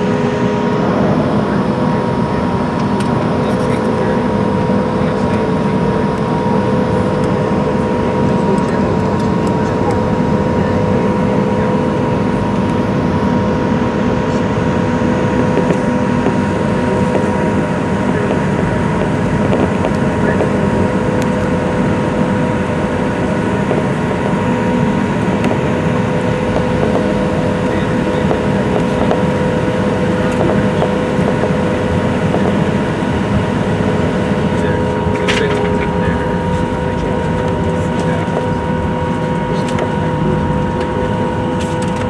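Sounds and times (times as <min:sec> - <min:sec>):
airplane cabin engine rumble: 0:00.0 - 0:42.0
engine whine: 0:00.0 - 0:42.0.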